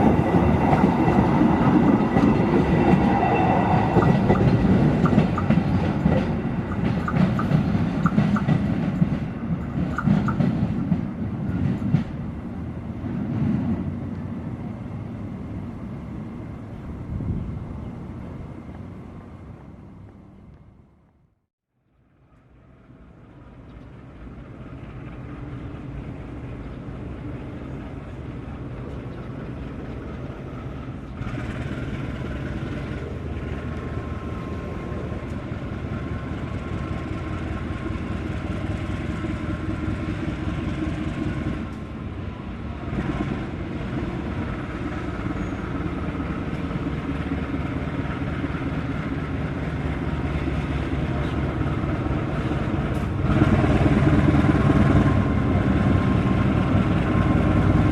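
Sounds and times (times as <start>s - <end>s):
diesel locomotive engine: 0.0s - 57.9s.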